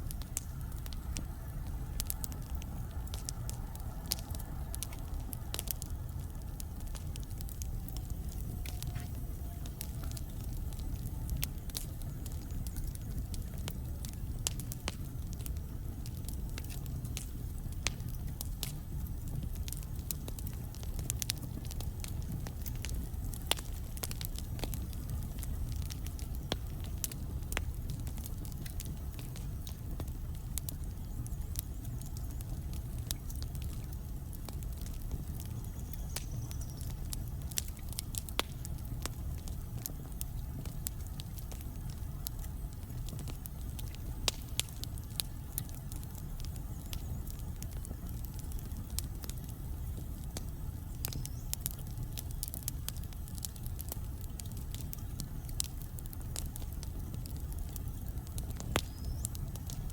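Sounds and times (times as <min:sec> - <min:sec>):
fire flames rumbling: 0:00.0 - 0:59.9
wood crackling and popping: 0:00.0 - 0:59.9.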